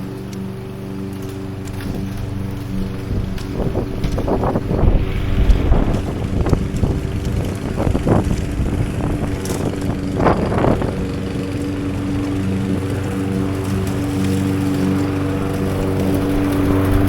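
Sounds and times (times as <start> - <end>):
lawn mower engine running: 0.0 - 17.0
wind on microphone: 1.8 - 17.0.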